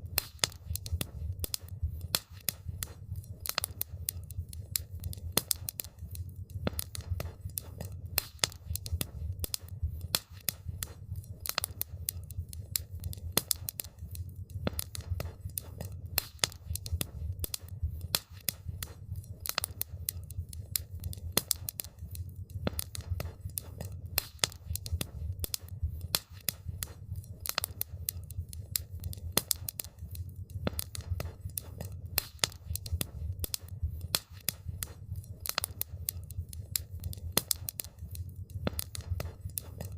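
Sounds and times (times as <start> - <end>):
campfire crackling and popping: 0.0 - 39.9
steady low rumble: 0.0 - 39.9.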